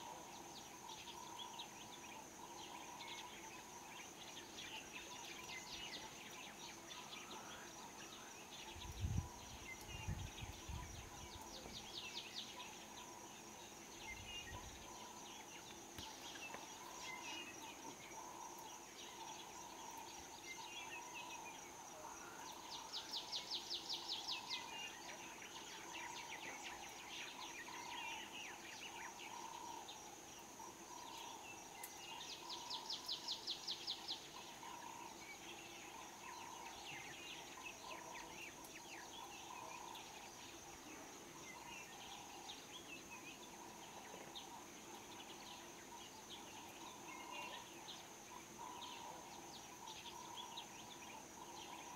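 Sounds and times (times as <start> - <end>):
high insect drone: 0.0 - 51.9.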